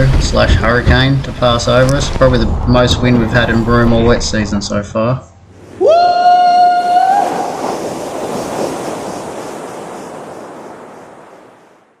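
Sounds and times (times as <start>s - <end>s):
rushing wash like surf: 0.0s - 4.8s, 5.4s - 12.0s.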